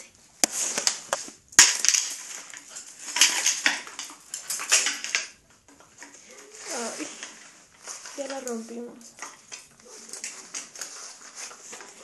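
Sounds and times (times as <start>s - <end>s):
umbrella crinkling and rustling: 0.0s - 12.0s.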